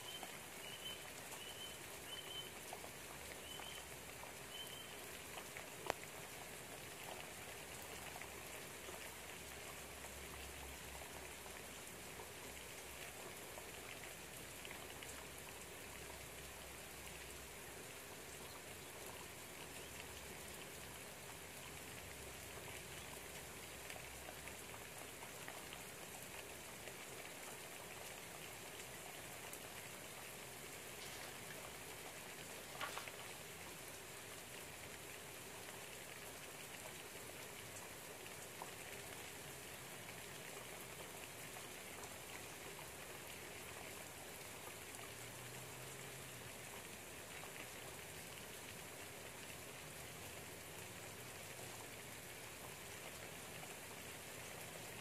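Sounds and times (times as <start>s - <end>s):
faint drips: 0.0s - 55.0s
light rain pattering: 0.0s - 55.0s.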